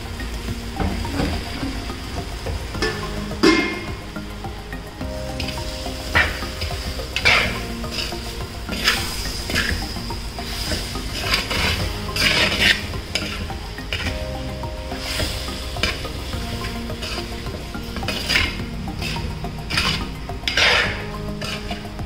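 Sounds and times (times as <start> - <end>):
prawns sizzling: 0.0 - 22.0.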